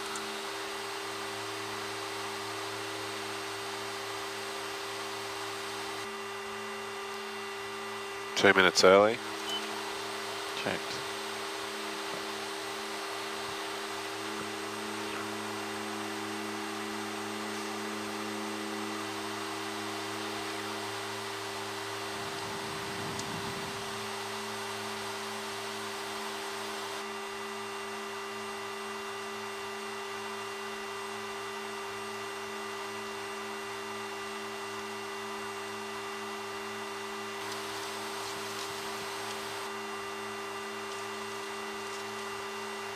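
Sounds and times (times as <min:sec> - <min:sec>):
turboprop engines droning in cockpit: 0:00.0 - 0:42.9.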